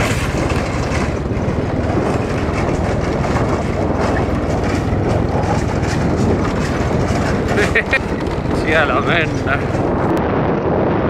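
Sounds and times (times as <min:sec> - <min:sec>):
motorbike rattling over bumps: 0:00.0 - 0:10.2
motorbike engine roar: 0:00.0 - 0:11.0.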